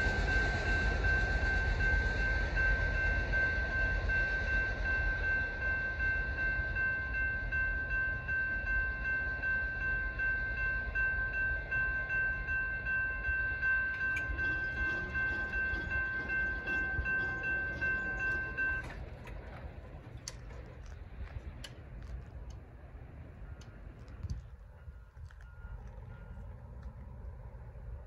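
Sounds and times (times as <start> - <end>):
railroad crossing bell ringing: 0.0 - 21.0, 22.4 - 27.1.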